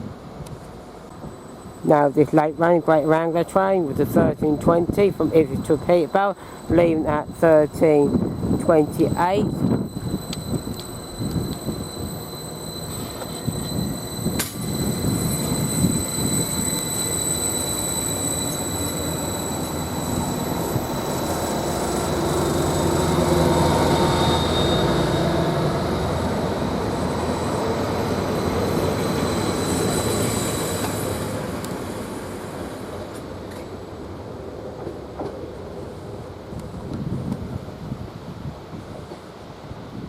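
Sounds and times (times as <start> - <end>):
diesel train pulling away: 0.1 - 37.0.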